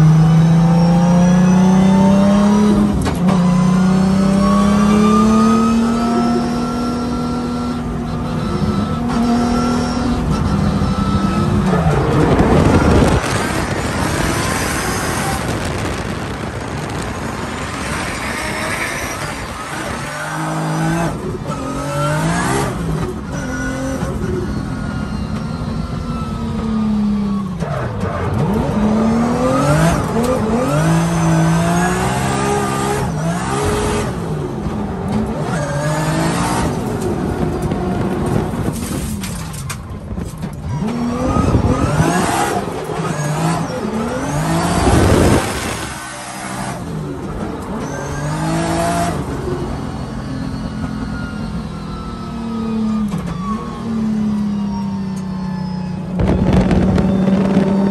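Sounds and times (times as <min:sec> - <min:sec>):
car engine revving hard: 0:00.0 - 0:24.1, 0:26.5 - 0:38.8, 0:40.7 - 0:50.0, 0:56.2 - 0:57.9
tyre and road noise: 0:00.0 - 0:57.9
tyre squeal: 0:06.2 - 0:15.5, 0:17.2 - 0:37.2, 0:40.3 - 0:57.9.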